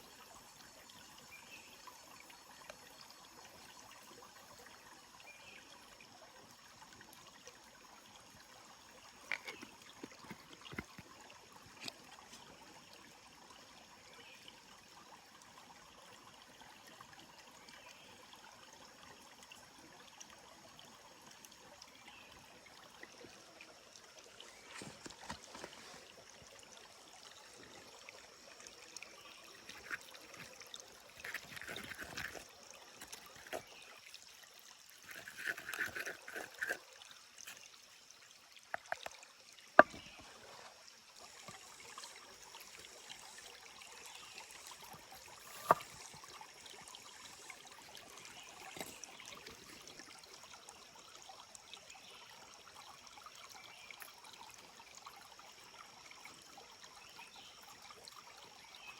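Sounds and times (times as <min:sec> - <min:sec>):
small stream trickling: 0:00.0 - 0:58.9.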